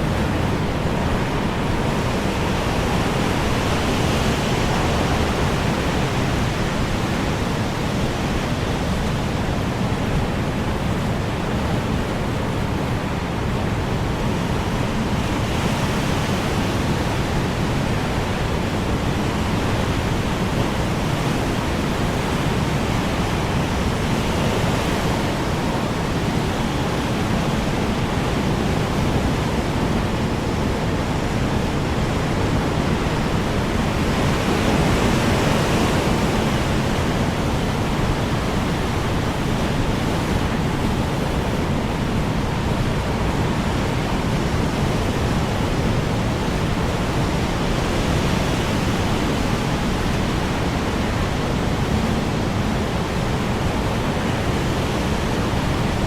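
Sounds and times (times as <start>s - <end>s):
strong wind blowing: 0.0s - 56.0s.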